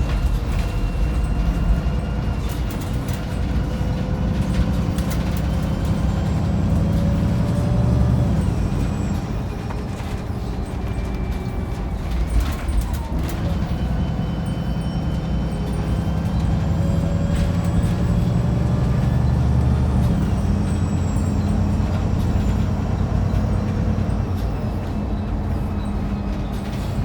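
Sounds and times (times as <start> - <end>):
bus diesel engine under load: 0.0 - 27.0.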